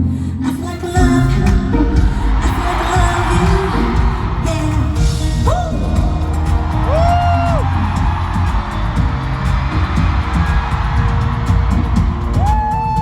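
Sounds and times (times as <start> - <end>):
live band with heavy drums: 1.0 - 13.0.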